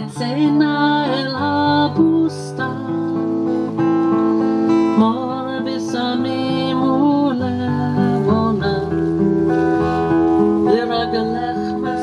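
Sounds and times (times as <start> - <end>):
person singing: 0.0 - 3.7, 4.3 - 9.8, 10.4 - 12.0
acoustic guitar: 0.0 - 12.0.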